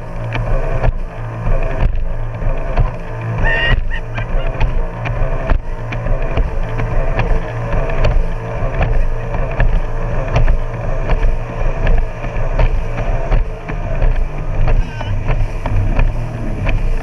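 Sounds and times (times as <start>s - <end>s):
hull slapping water: 0.0s - 17.0s
jet ski engine running: 0.0s - 17.0s.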